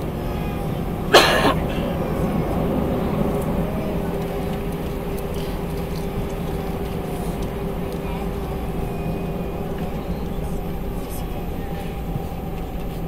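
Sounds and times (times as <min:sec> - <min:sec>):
jet engines at taxi power: 0:00.0 - 0:13.0.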